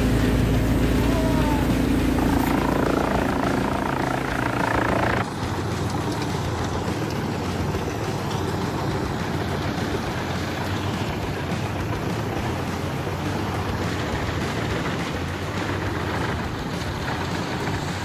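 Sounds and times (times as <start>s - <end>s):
rough machine low hum: 0.0s - 18.0s
wood chipper running: 0.0s - 18.0s.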